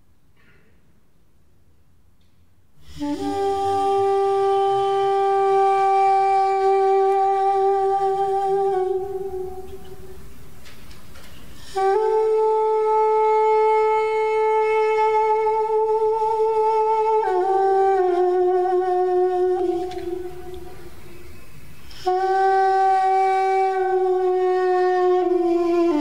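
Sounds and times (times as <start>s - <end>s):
woodwind playing slow melody: 2.8s - 10.2s, 11.6s - 26.0s.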